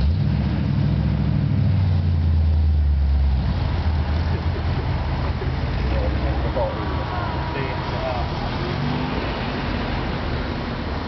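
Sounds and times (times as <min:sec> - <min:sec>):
car engines rumbling past: 0:00.0 - 0:11.0.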